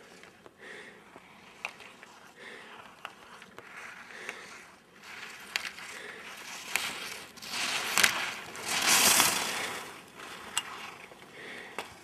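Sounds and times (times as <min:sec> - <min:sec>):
skis scraping on hard snow: 0:01.2 - 0:11.3.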